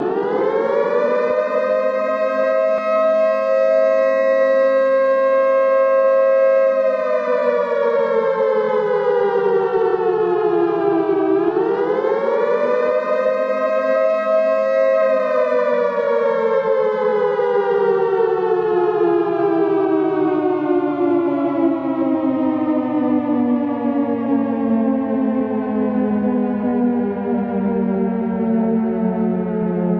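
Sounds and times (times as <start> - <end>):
flood warning siren wailing: 0.0 - 29.9.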